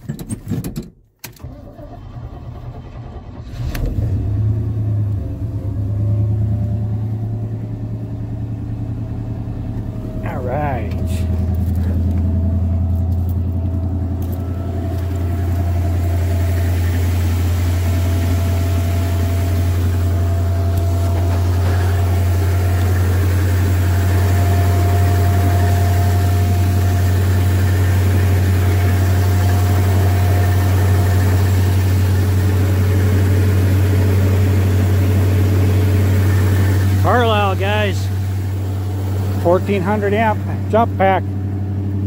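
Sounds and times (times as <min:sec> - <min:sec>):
truck engine idling: 0:01.4 - 0:42.0.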